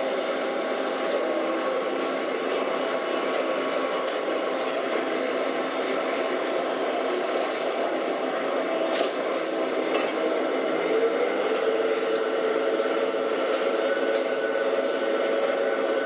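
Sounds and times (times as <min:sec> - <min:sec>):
metal spinning lathe drone: 0:00.0 - 0:16.0.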